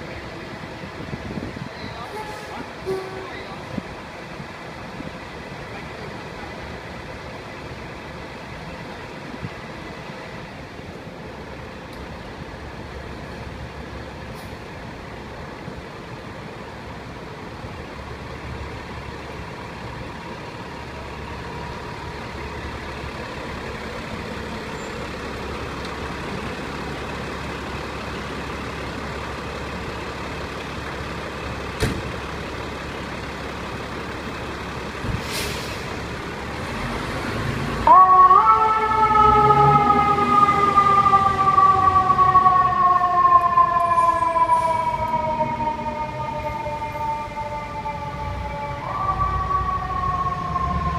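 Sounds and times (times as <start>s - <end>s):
fire engine diesel engine running: 0.0s - 50.9s.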